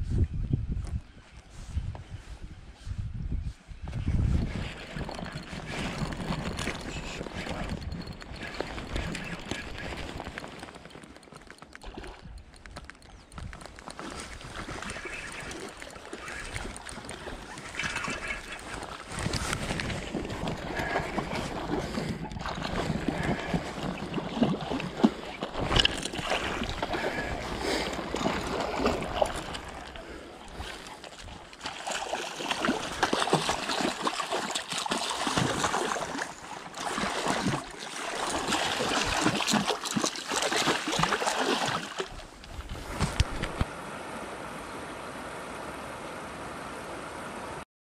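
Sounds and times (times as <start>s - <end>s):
river water splashing: 4.5s - 13.0s, 13.6s - 47.6s.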